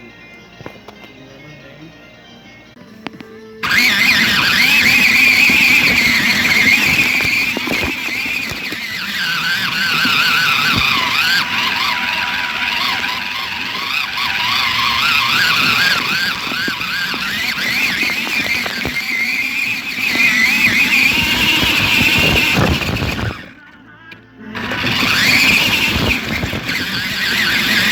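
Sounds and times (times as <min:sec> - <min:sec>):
toy car electric motor whining: 0:03.6 - 0:27.9.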